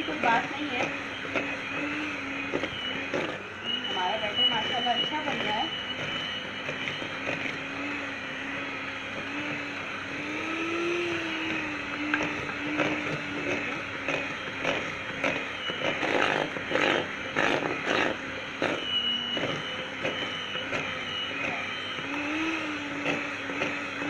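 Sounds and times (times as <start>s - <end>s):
electric hand mixer running: 0.0s - 24.0s.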